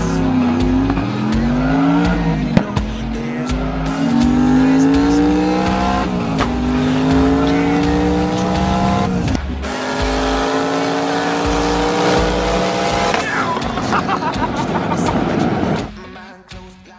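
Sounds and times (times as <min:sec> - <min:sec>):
car engine accelerating through gears: 0:00.0 - 0:13.8.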